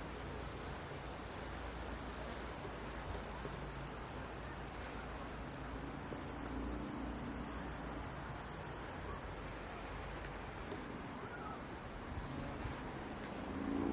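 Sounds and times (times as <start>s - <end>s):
cricket chirping: 0.0s - 13.9s.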